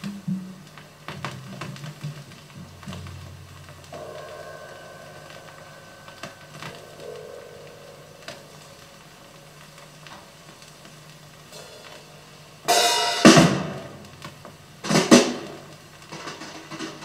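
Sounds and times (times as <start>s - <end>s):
cymbal and drum strikes: 0.0s - 17.0s.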